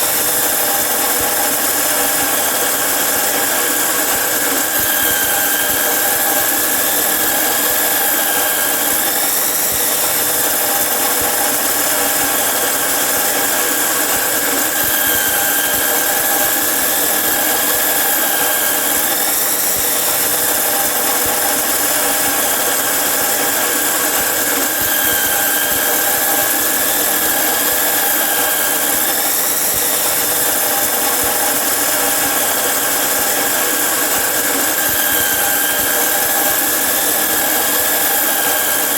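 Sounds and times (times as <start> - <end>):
angle grinder cutting metal: 0.0 - 38.9.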